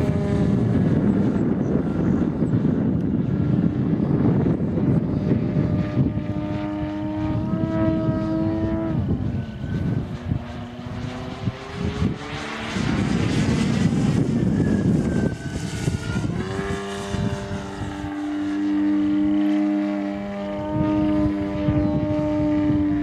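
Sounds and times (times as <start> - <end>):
model plane engine: 0.0 - 23.0.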